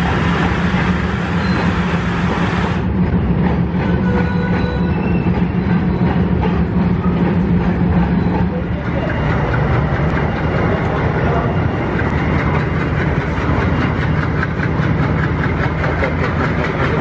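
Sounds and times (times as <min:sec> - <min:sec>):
diesel locomotive drone: 0:00.0 - 0:17.0
train wheels on rails: 0:00.0 - 0:17.0.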